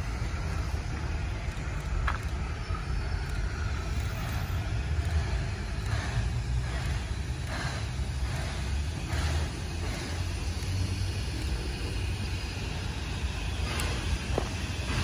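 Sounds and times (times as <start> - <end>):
steam locomotive rumbling: 0.0 - 15.0
hissing steam bursts: 2.4 - 15.0.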